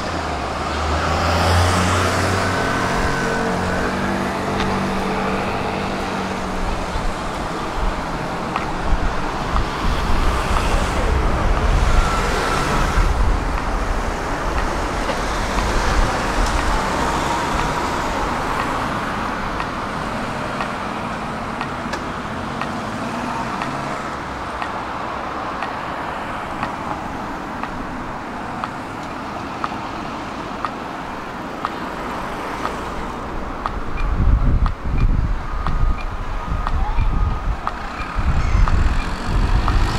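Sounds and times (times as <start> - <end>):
tram wheels rumbling on rails: 0.0 - 39.9.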